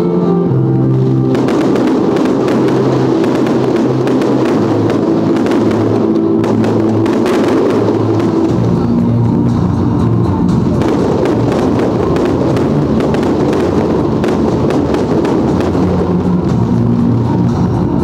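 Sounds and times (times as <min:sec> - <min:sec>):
music: 0:00.0 - 0:18.0
fireworks bangs and crackles: 0:00.8 - 0:18.0.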